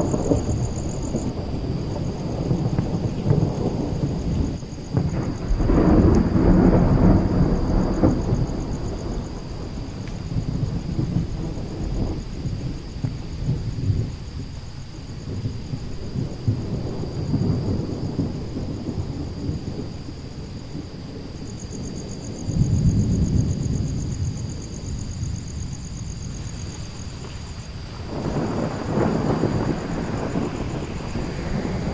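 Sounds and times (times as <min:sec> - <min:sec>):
thunder rumbling: 0:00.0 - 0:31.9.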